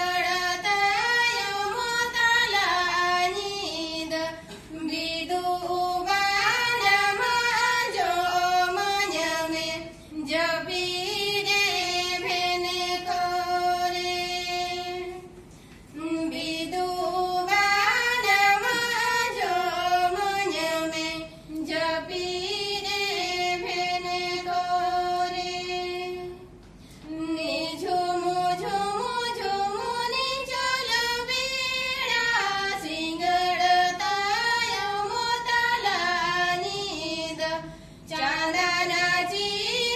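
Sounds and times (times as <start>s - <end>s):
two women singing unaccompanied: 0.0s - 39.9s.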